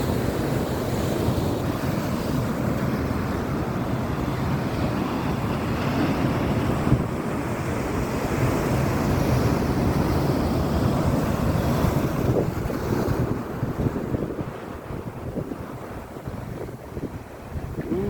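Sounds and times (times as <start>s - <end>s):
sea waves: 0.0s - 18.0s
wind buffeting microphone: 0.0s - 18.0s.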